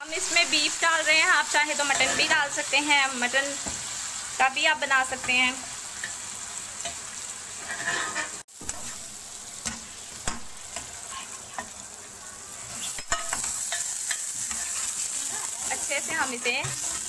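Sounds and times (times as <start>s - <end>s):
meat sizzling in oil: 0.0s - 17.0s
spoon stirring and scraping pan: 1.7s - 4.3s, 5.0s - 17.0s.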